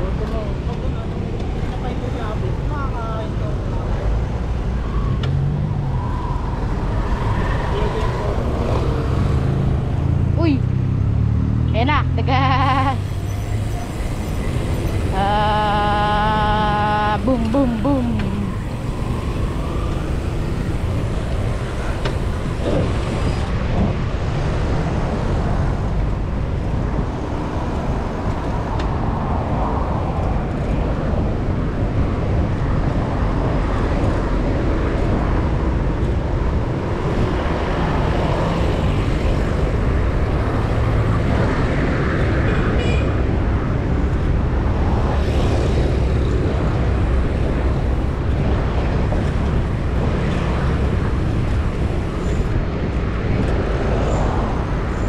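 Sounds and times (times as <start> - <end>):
cars passing: 0.0 - 55.0
road noise: 0.0 - 55.0
wind rush: 4.6 - 11.6, 13.0 - 55.0.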